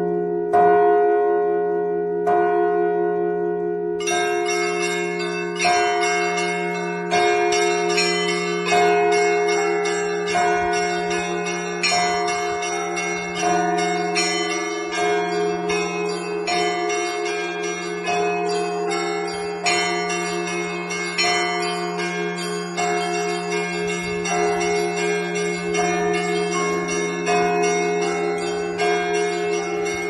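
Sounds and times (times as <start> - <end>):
church bells pealing: 0.0 - 30.0
deep bell humming: 0.0 - 30.0.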